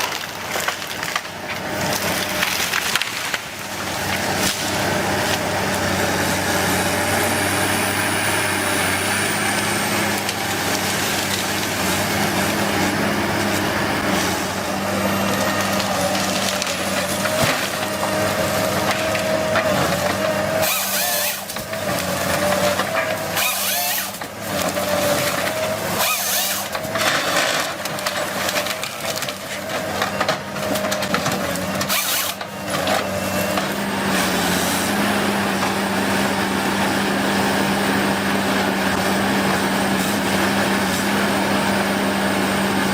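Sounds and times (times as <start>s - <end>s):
wood cracking and splintering: 0.0s - 7.7s, 8.5s - 42.9s
woodworking machine humming: 0.0s - 42.9s.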